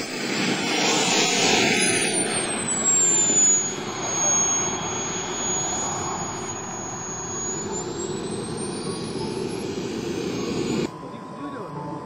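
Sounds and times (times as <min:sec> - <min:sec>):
model jet engine whine: 0:00.0 - 0:12.0.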